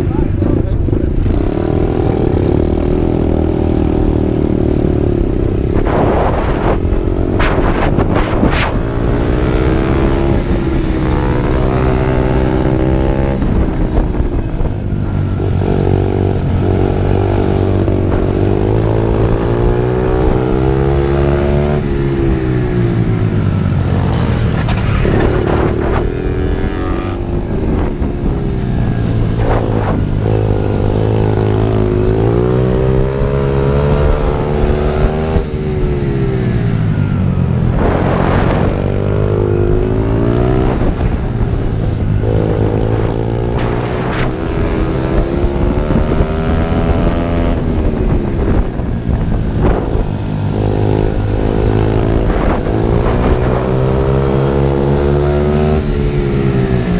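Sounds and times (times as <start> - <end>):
pit bike engine revving: 0.0 - 56.9.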